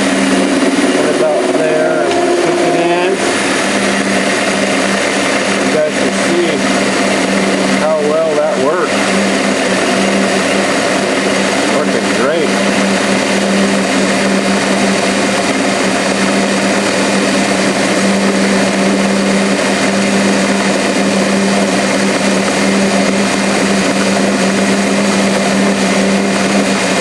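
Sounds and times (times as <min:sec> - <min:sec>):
lathe machine hum: 0:00.0 - 0:27.0.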